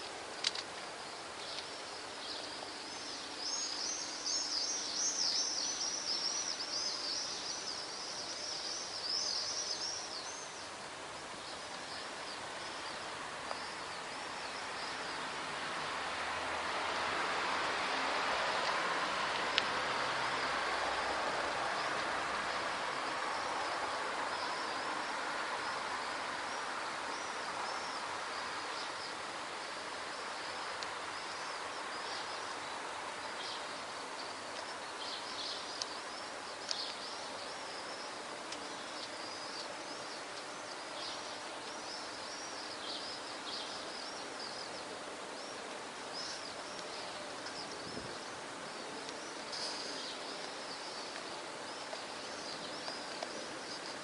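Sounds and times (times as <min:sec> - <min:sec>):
steady background noise: 0:00.0 - 0:54.0
swallows chirping: 0:01.1 - 0:15.4, 0:19.9 - 0:54.0.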